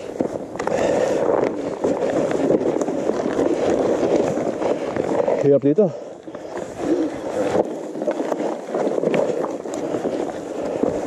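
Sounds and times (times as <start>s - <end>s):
bike rattling and knocking: 0.0s - 11.0s
bike tyres crunching over stones: 0.0s - 11.0s.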